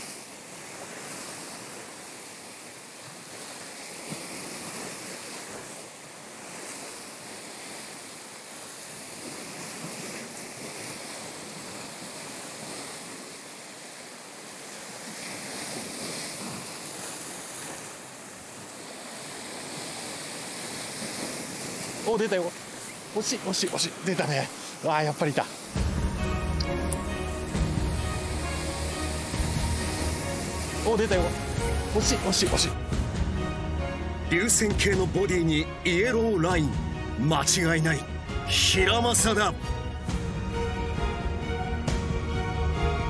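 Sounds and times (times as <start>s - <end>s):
surf on a rocky shore: 0.0s - 43.0s.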